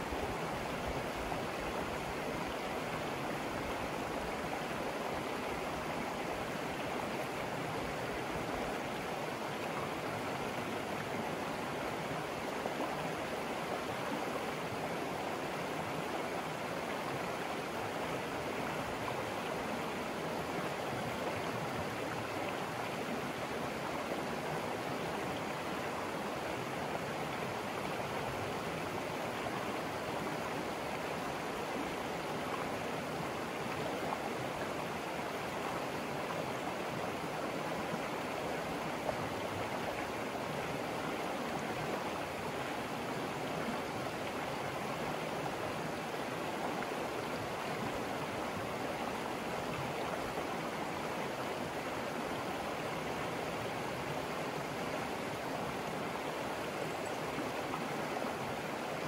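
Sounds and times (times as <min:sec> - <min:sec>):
river rushing over stones: 0:00.0 - 0:59.0.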